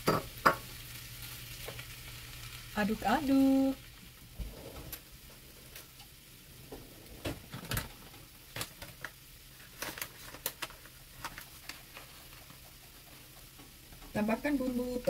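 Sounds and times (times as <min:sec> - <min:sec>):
faint steady sizzle: 0:00.0 - 0:15.0
hot oil popping and crackling: 0:00.0 - 0:15.0.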